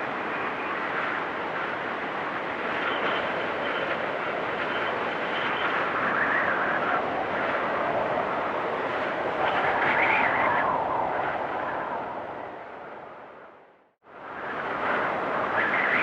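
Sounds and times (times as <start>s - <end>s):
storm wind whistling: 0.0s - 16.0s.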